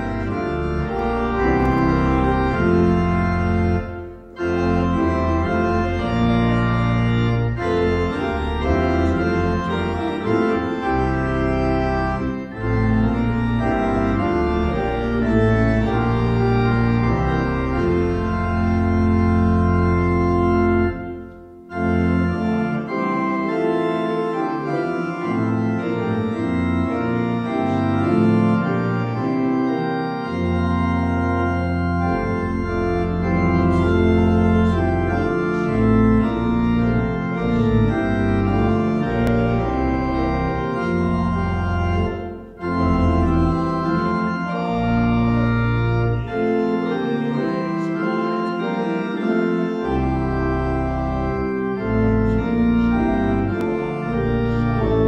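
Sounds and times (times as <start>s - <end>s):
organ playing hymn chords: 0.0s - 55.0s.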